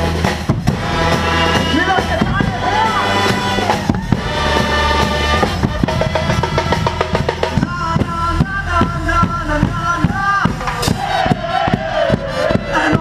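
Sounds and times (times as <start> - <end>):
brass band playing loudly: 0.0 - 13.0
rapid drum break: 0.0 - 13.0.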